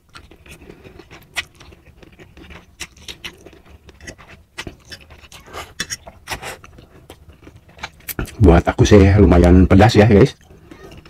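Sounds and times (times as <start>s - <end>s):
person slurping and chewing: 0.1s - 8.4s, 10.4s - 11.0s.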